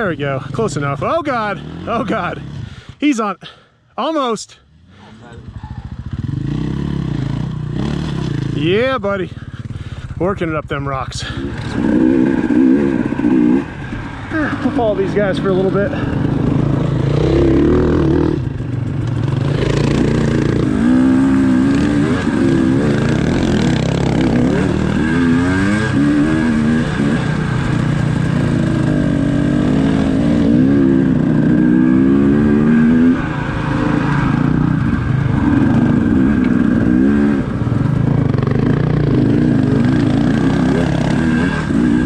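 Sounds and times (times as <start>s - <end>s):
dirt bike engine revving: 0.0s - 3.0s, 4.7s - 42.0s.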